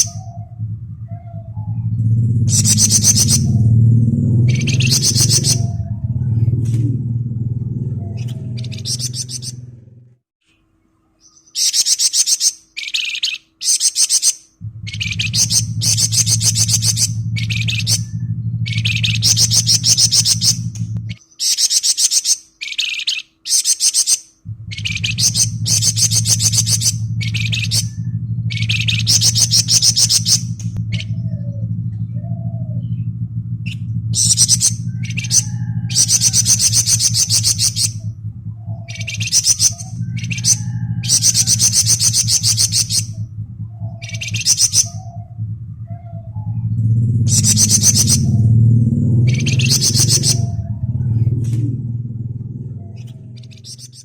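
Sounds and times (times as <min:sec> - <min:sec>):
low steady hum: 0:00.0 - 0:54.0
songbird buzzy trills: 0:00.0 - 0:54.0.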